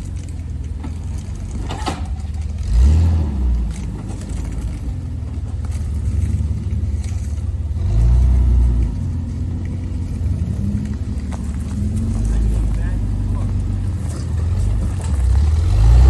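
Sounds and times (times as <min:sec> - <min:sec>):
engine idling with throttle bursts: 0:00.0 - 0:16.0.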